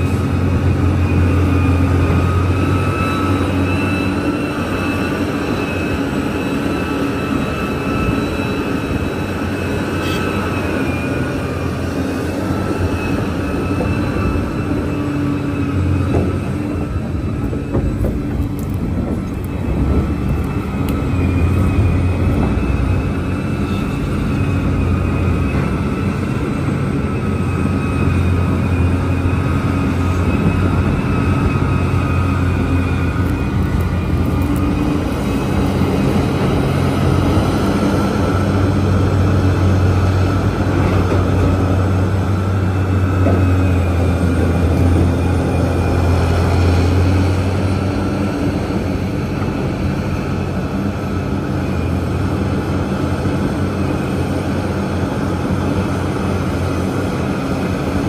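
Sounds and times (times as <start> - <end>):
excavator engine drone: 0.0 - 58.0.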